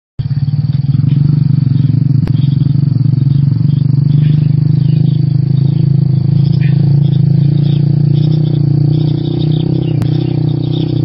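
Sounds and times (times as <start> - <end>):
loud pulsing low drone: 0.2 - 11.0.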